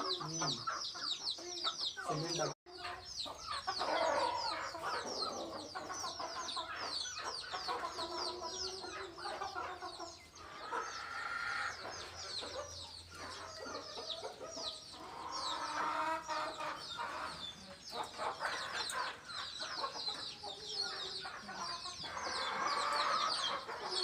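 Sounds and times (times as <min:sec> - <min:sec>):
chicks peeping: 0:00.0 - 0:24.0
hen clucking: 0:00.0 - 0:24.0.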